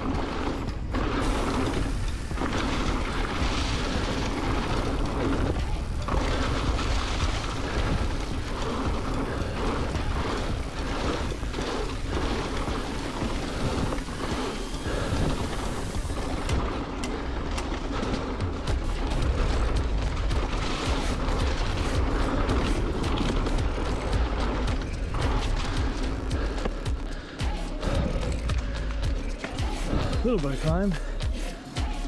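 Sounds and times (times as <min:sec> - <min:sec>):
bike knocking and rattling: 0:00.0 - 0:32.0
bike tyres rolling over leaves: 0:00.0 - 0:32.0.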